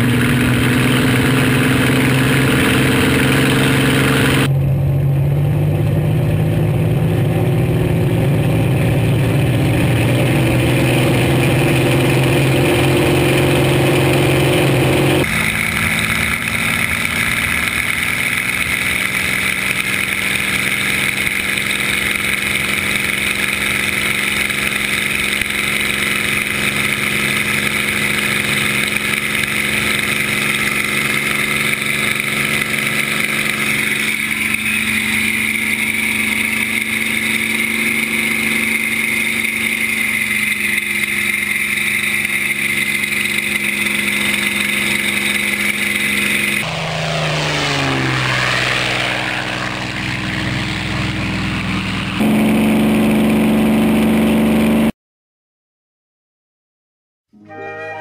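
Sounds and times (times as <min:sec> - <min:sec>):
plane flying past: 0:00.0 - 0:54.8
aircraft engine running: 0:00.0 - 0:54.9.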